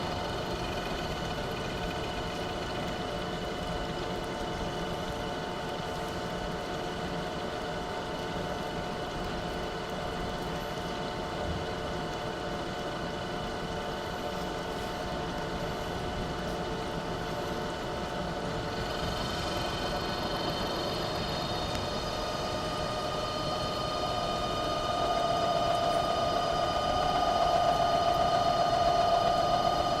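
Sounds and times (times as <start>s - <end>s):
milling machine whine: 0.0s - 30.0s.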